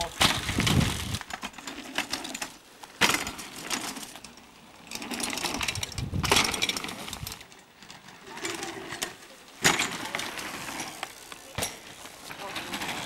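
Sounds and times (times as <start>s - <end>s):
bicycle tyres crunching over dirt: 0.0s - 13.0s
bike landing clatter: 0.0s - 13.0s.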